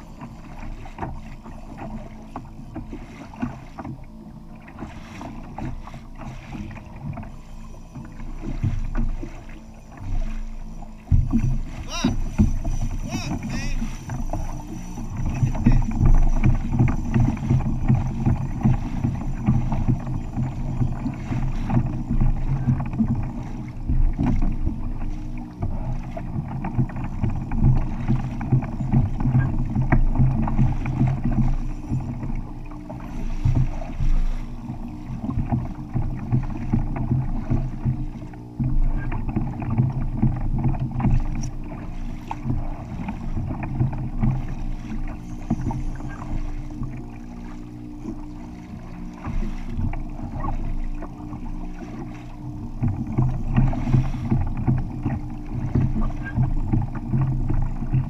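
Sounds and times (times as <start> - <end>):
low wind rumble on microphone: 0.0 - 58.0
waves slapping against hull: 0.0 - 58.0.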